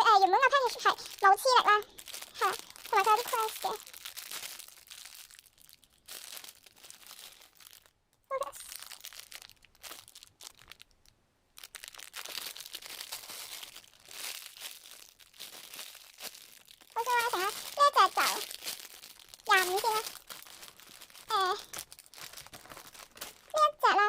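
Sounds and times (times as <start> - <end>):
plastic packaging crinkling: 0.0 - 24.0.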